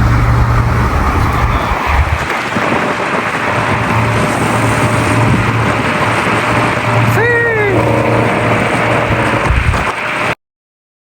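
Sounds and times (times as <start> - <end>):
low engine drone: 0.0 - 10.4
wind and road noise: 0.0 - 10.4.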